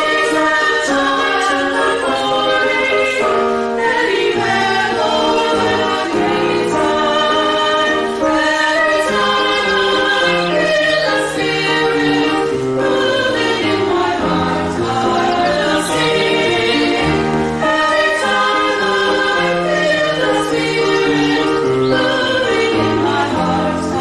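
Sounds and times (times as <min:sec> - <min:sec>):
choir singing held chords: 0:00.0 - 0:24.0.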